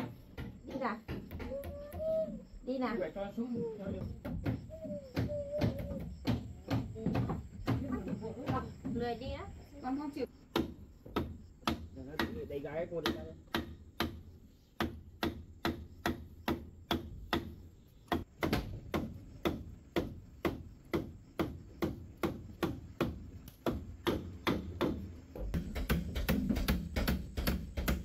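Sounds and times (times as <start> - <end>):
mallet knocking on hollow bamboo: 0.0 - 2.3, 3.6 - 9.1, 10.5 - 28.0.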